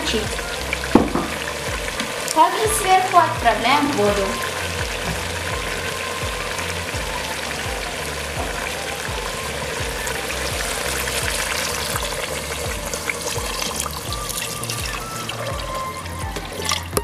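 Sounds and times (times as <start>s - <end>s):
water pouring into a pot: 0.0s - 17.0s.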